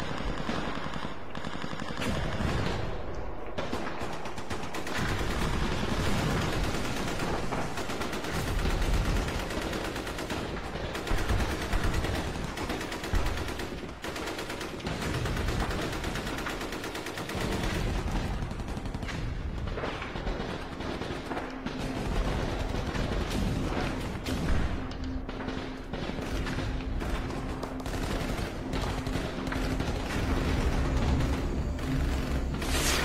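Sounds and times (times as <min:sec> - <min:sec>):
automatic gunfire: 0:03.6 - 0:33.0.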